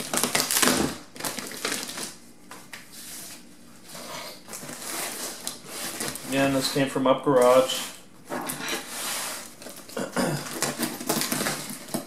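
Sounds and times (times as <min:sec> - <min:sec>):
plastic wrapping crinkling: 0:00.0 - 0:03.4, 0:04.4 - 0:12.0.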